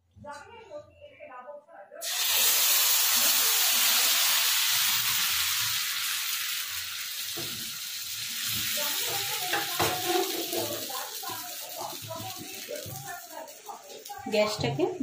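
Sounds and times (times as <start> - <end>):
batter sizzling in pan: 2.0 - 15.0.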